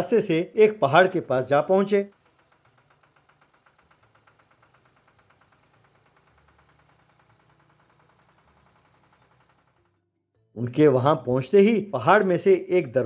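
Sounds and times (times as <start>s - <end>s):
small tractor engine chugging: 0.0s - 11.3s.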